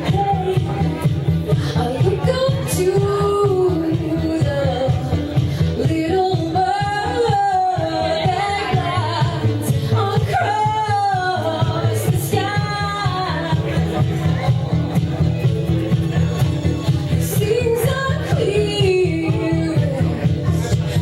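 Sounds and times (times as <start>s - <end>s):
woman singing pop song: 0.0s - 14.5s, 17.1s - 21.0s
karaoke backing track with beat: 0.0s - 21.0s.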